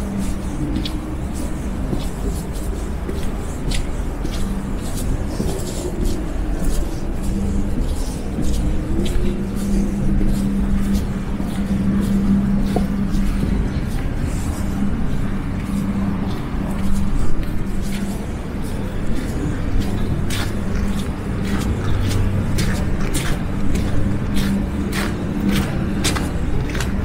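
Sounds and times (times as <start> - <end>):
footsteps crunching in snow: 0.0 - 27.0
vehicle engine humming: 0.0 - 27.0.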